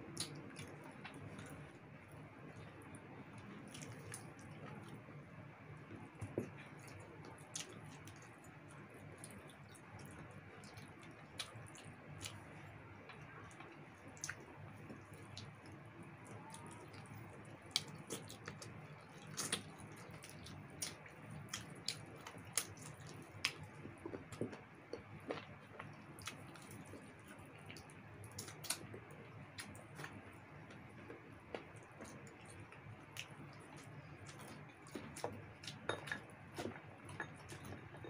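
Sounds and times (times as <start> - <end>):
people chewing: 0.0 - 5.1, 5.8 - 38.0
faint steady hum: 0.0 - 38.0.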